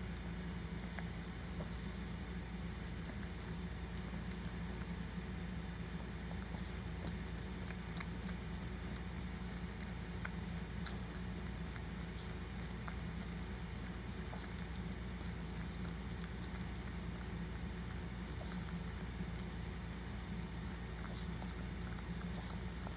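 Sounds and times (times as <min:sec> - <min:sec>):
steady low hum: 0:00.0 - 0:22.9
dog licking wet clicks: 0:02.9 - 0:22.9.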